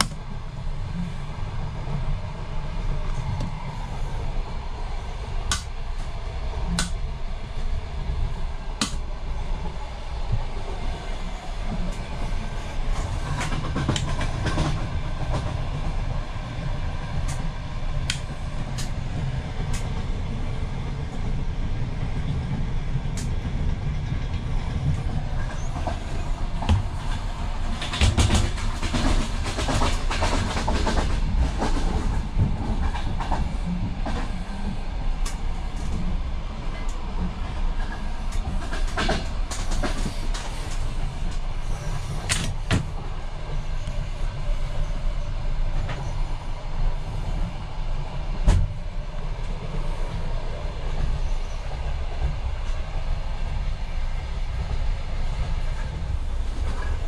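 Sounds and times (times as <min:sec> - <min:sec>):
train coach rumble and rattle: 0:00.0 - 0:57.0.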